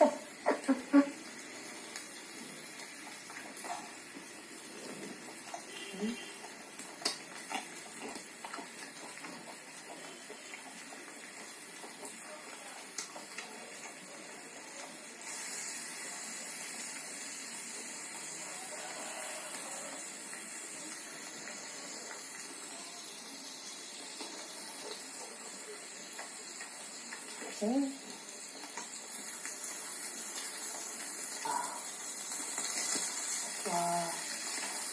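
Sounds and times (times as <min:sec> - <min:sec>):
meat sizzling on a grill: 0:00.0 - 0:34.9.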